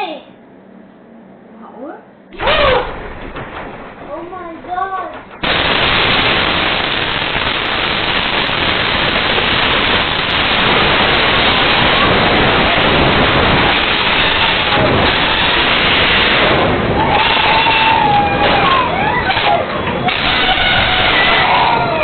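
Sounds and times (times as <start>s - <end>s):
loud steady rushing noise: 2.4s - 22.0s.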